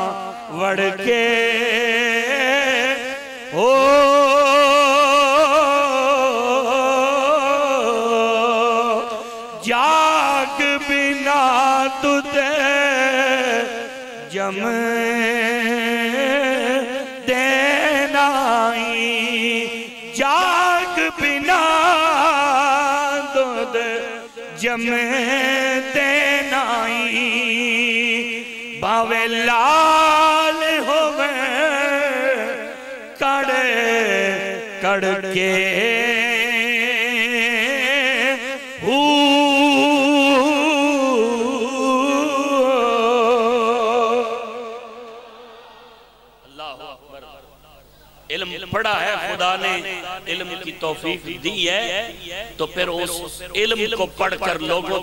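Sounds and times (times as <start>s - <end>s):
man singing with vibrato: 0.0s - 55.0s.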